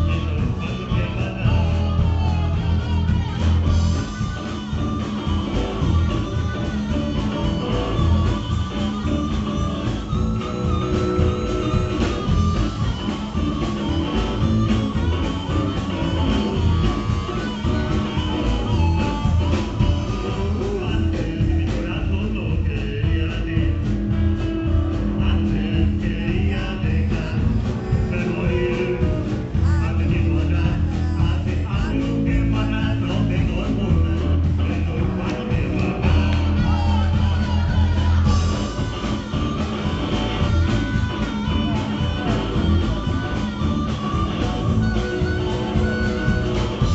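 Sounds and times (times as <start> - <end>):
blues band playing: 0.0 - 46.9
electric guitar: 0.0 - 46.9.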